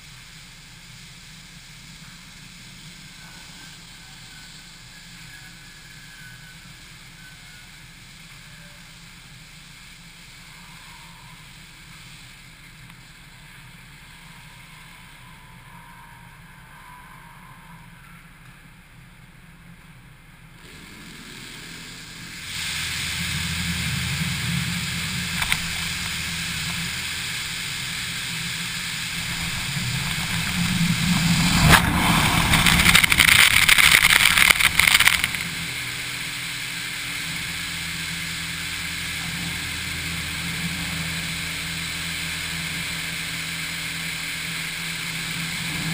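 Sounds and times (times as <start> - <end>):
high-pressure water jets hissing: 0.0 - 18.4, 20.6 - 45.9
low steady hum: 0.0 - 45.9.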